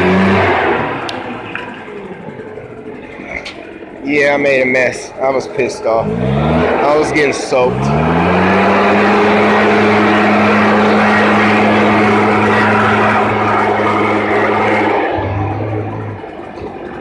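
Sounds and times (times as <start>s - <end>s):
leaf blower running: 0.0s - 17.0s.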